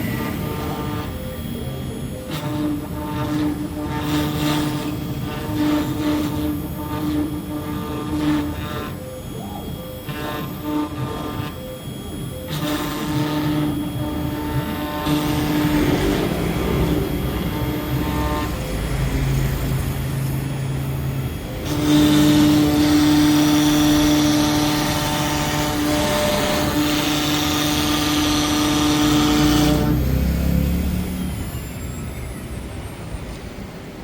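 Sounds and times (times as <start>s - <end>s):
router motor whine: 0.0s - 34.0s.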